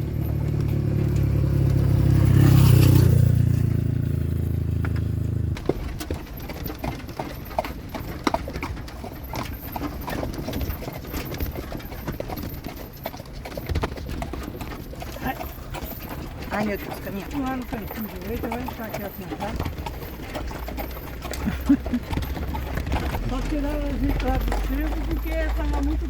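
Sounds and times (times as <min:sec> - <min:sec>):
horse hooves clip-clopping: 0:00.0 - 0:26.0
vehicle engine running: 0:00.0 - 0:26.0.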